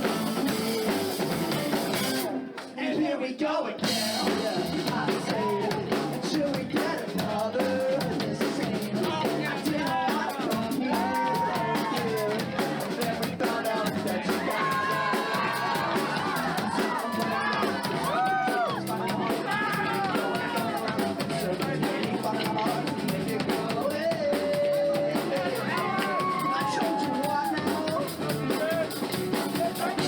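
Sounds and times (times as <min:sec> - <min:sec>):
live rock band: 0:00.0 - 0:02.7, 0:03.8 - 0:30.0
drum kit: 0:00.0 - 0:02.8, 0:03.8 - 0:30.0
person singing: 0:00.0 - 0:30.0.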